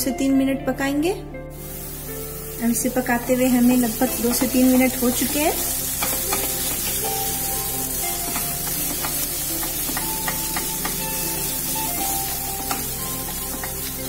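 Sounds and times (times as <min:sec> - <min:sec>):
background music: 0:00.0 - 0:14.0
low sizzle: 0:01.5 - 0:14.0.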